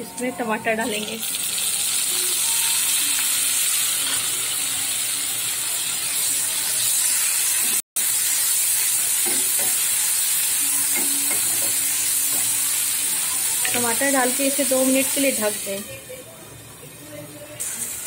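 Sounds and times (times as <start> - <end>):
vegetables sizzling in oil: 0.1 - 16.0, 16.7 - 18.0.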